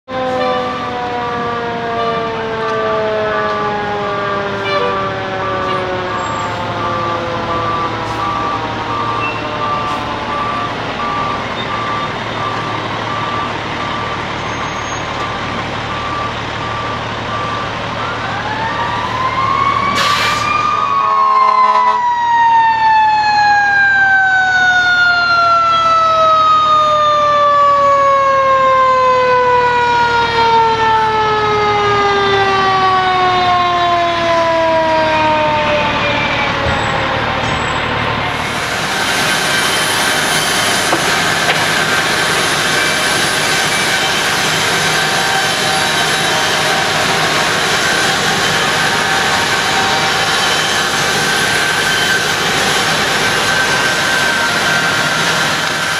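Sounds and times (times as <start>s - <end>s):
fire engine siren wailing: 0.0s - 55.9s.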